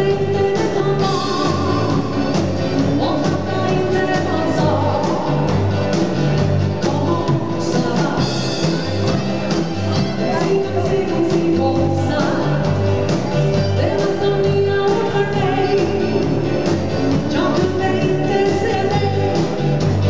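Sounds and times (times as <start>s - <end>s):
woman singing: 0.0s - 5.7s, 6.7s - 8.5s, 10.2s - 12.8s, 13.6s - 19.9s
band playing dance music: 0.0s - 20.0s.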